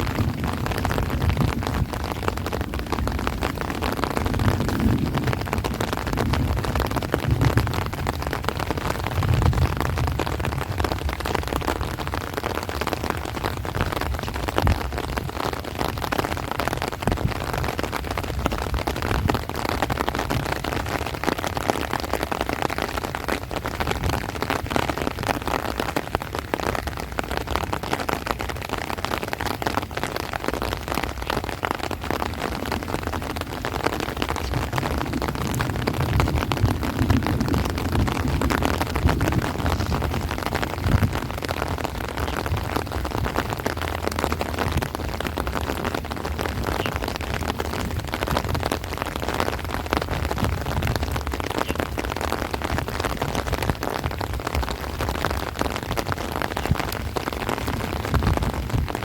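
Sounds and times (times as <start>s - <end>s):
heavy rain on plants and trees: 0.0s - 59.0s
low wind rumble: 0.0s - 59.0s.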